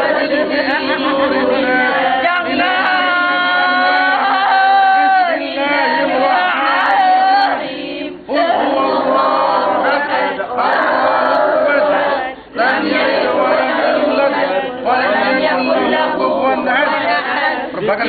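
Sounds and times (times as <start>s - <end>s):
melodic chanted recitation: 0.0s - 18.0s.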